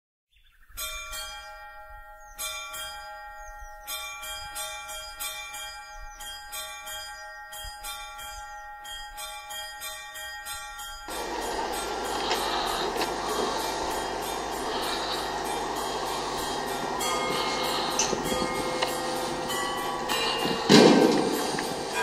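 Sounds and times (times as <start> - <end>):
church bells pealing: 0.8 - 22.0.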